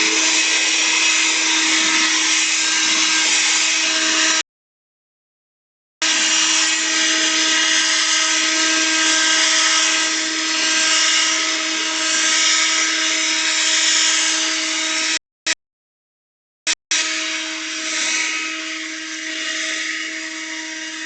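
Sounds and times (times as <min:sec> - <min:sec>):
leaf blower running: 0:00.0 - 0:04.4, 0:06.0 - 0:15.1, 0:17.0 - 0:21.0.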